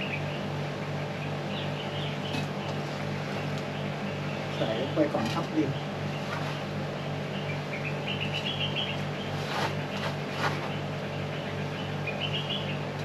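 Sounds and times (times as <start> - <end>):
bird chirping: 0.0 - 13.0
low machine hum: 0.0 - 13.0.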